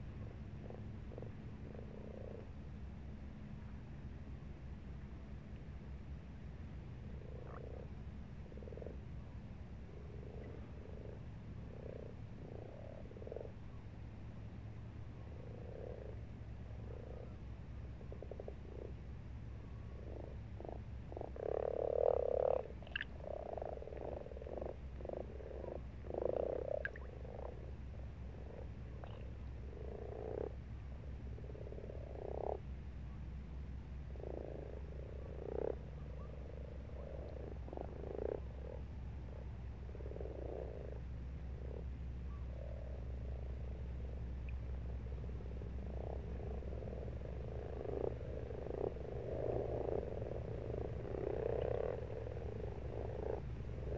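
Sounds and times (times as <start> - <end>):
frogs croaking: 0.0 - 4.6, 6.6 - 53.9.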